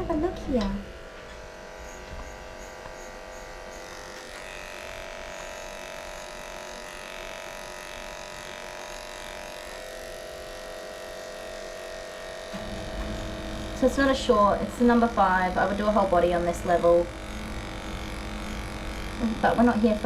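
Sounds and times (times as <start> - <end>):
electric clippers buzzing: 0.0 - 20.0.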